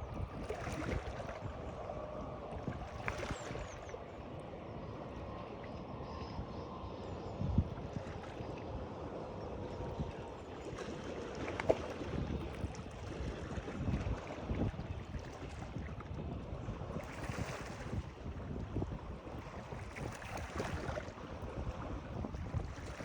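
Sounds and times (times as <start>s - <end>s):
wind gusting on microphone: 0.0s - 10.7s, 11.6s - 23.0s
moving water: 0.0s - 23.0s.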